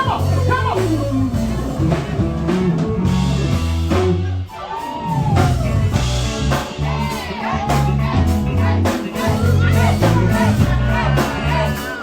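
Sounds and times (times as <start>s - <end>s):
bass line: 0.0s - 12.0s
drum kit: 0.0s - 12.0s
guitar playing: 0.0s - 12.0s.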